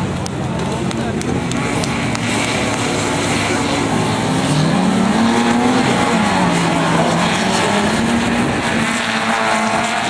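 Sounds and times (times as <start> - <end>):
race car engines revving: 0.0 - 10.0.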